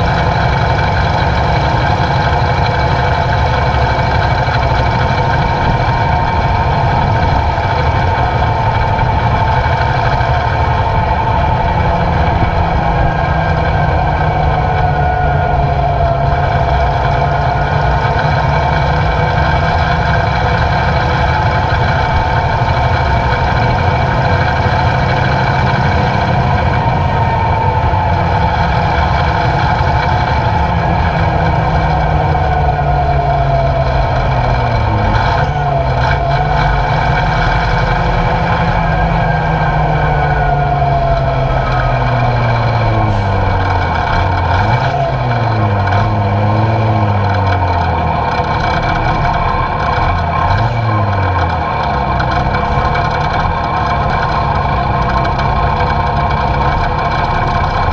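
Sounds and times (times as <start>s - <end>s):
truck diesel engine running: 0.0s - 57.9s.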